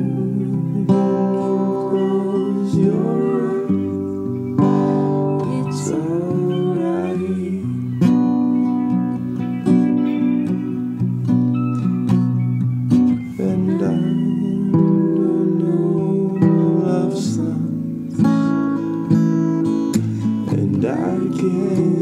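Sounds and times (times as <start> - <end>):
acoustic guitar song: 0.0 - 22.0.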